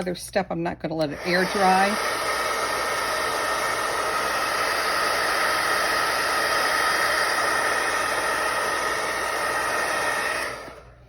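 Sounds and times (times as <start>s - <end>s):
heat tool blowing air: 1.0s - 11.0s.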